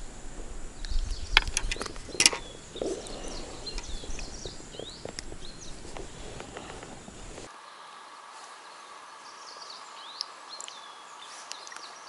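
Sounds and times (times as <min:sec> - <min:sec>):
chirping bird calls: 0:00.8 - 0:12.0.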